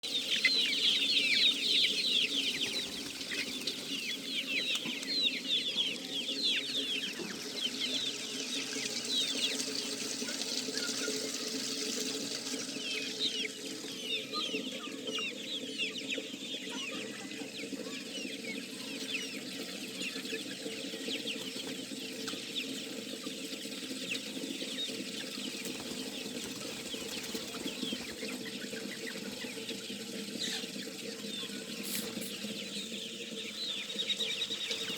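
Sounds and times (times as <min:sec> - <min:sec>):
hens clucking: 0:00.0 - 0:34.9.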